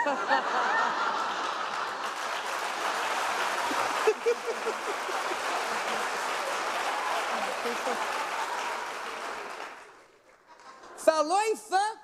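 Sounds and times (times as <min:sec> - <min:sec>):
audience laughing: 0:00.0 - 0:09.7
audience applauding: 0:00.0 - 0:11.1.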